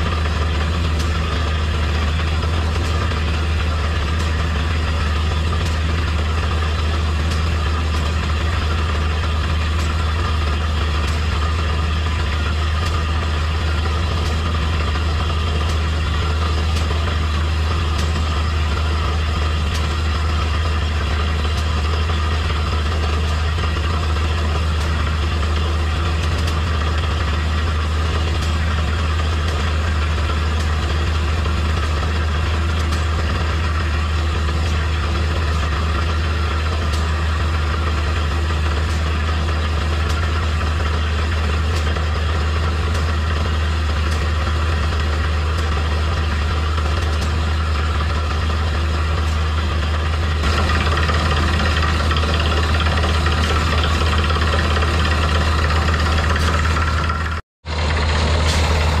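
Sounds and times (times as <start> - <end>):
drilling rig engine droning: 0.0 - 59.0.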